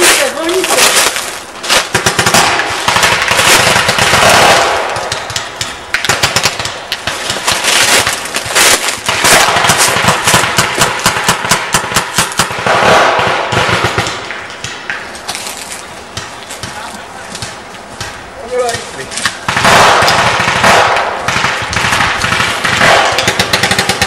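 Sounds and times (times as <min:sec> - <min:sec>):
paintball markers firing: 0:03.6 - 0:24.0.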